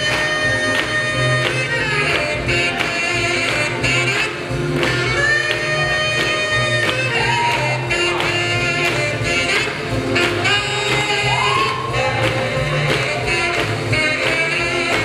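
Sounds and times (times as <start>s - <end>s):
boogie-woogie dance music: 0.0s - 15.0s.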